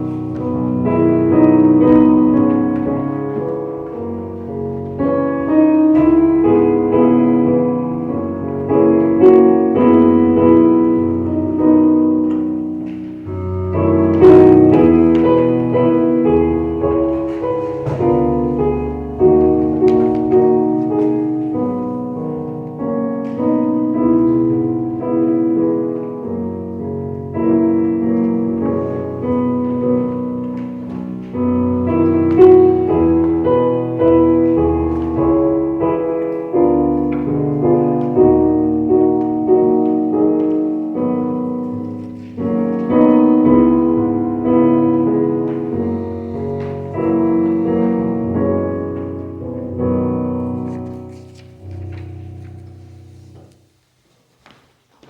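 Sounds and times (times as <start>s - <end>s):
piano playing slow chords: 0.0s - 53.8s.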